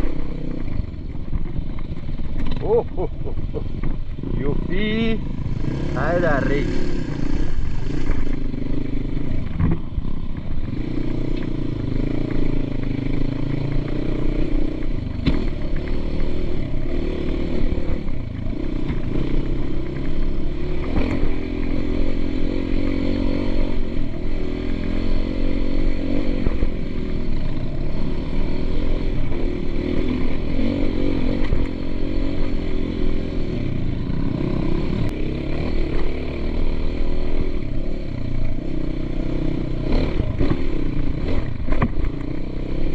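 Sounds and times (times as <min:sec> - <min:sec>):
dirt bike engine revving: 0:02.5 - 0:42.9.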